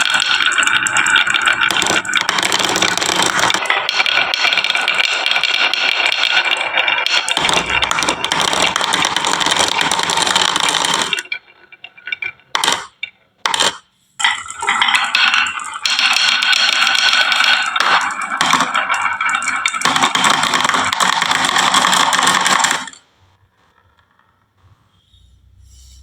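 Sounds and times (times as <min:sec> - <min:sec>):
marbles clattering down track: 0:00.0 - 0:26.0.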